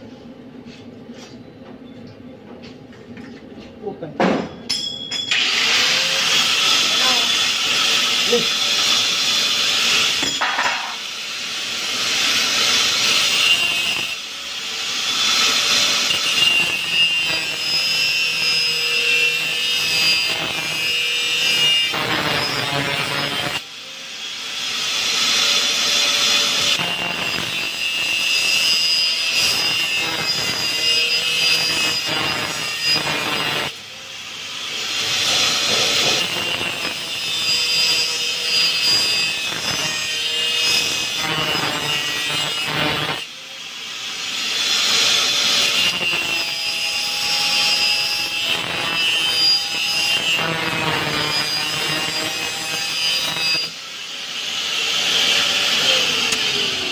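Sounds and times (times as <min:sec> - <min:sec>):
power tool scraping steel: 0:05.3 - 0:23.7, 0:24.4 - 0:43.3, 0:43.9 - 0:56.9.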